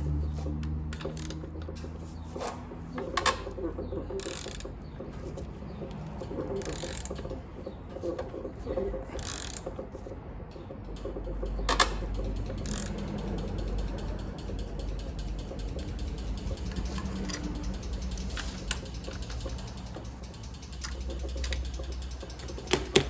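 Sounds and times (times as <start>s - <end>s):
ratchet wrench clicking: 0.0s - 8.3s, 9.2s - 10.0s, 10.8s - 23.0s.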